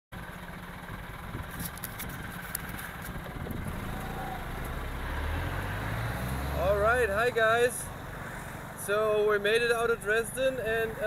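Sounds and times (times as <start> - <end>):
deeper engine rumble: 0.1 - 11.0
car engines idling: 0.2 - 11.0.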